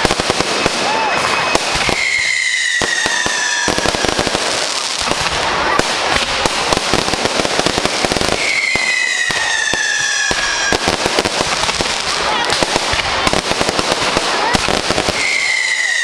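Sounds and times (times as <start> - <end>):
fireworks crackling and banging: 0.0 - 16.0
whistling firework: 0.0 - 16.0.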